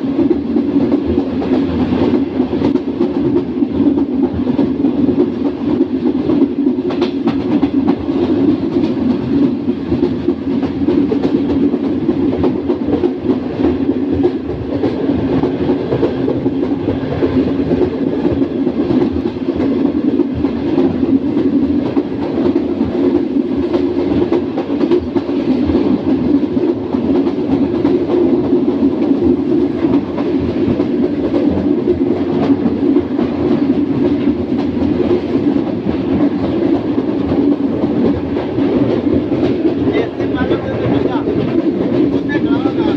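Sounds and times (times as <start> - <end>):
train track rumble: 0.0 - 42.9.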